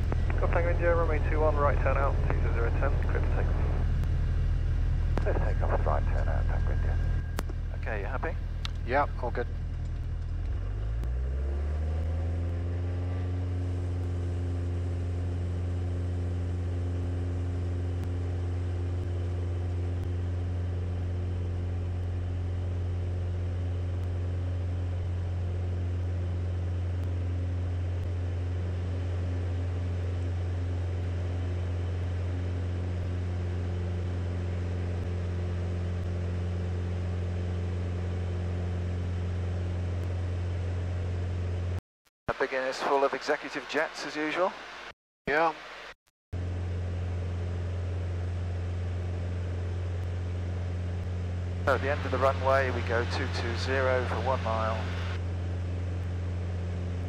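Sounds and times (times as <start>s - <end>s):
light aircraft engine at full power: 0.0s - 57.0s.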